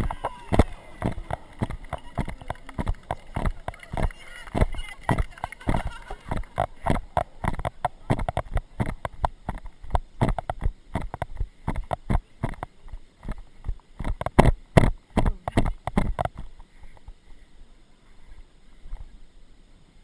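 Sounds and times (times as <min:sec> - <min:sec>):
horse hoofbeats: 0:00.0 - 0:16.5
tack jostling: 0:00.0 - 0:16.5.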